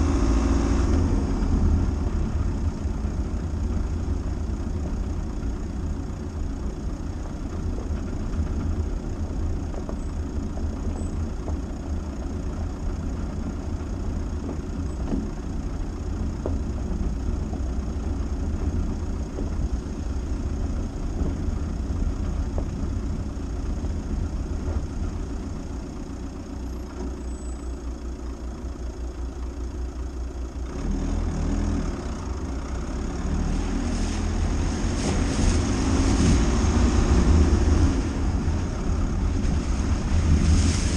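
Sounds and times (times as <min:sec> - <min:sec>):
car engine rumble off-road: 0:00.0 - 0:40.9
tyres on rough ground: 0:00.0 - 0:40.9.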